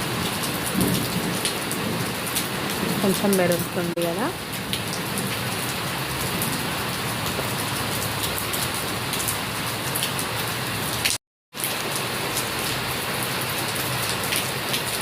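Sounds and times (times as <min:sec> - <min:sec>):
raindrops pattering on surfaces: 0:00.0 - 0:15.0
steady rain falling: 0:00.0 - 0:15.0.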